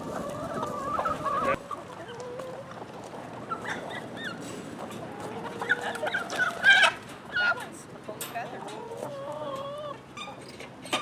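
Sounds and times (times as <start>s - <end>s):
hens clucking: 0.0s - 10.8s.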